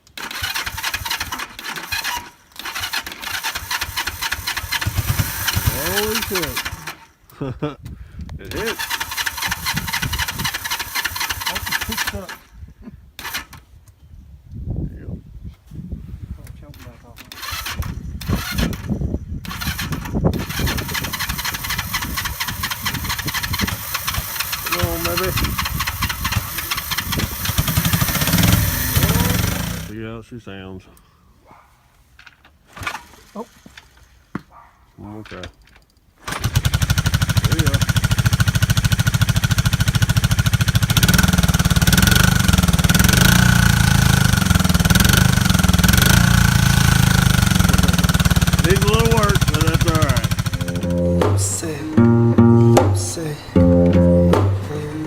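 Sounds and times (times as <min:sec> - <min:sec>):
motorcycle engine starting and running: 0:00.0 - 0:07.2, 0:08.5 - 0:12.5, 0:13.2 - 0:13.6, 0:16.7 - 0:30.0, 0:32.7 - 0:34.2, 0:36.2 - 0:55.0.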